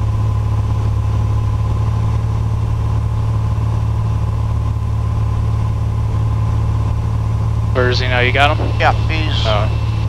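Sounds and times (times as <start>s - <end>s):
airplane engine drone in cabin: 0.0s - 10.0s.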